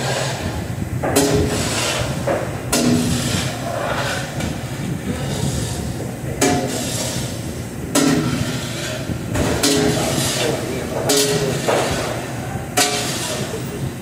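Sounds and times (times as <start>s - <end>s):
metal cookware clanking: 1.0s - 13.7s.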